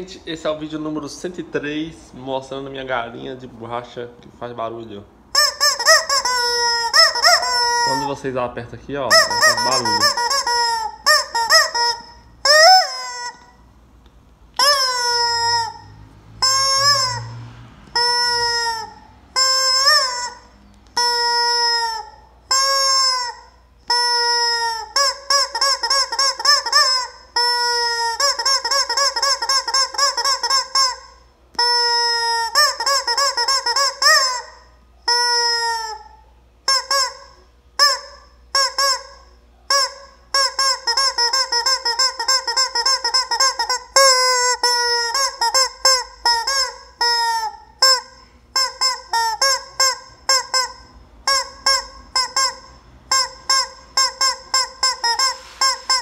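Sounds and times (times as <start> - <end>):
rubber chicken toy squawking: 5.3 - 8.3, 9.1 - 13.7, 14.5 - 56.0.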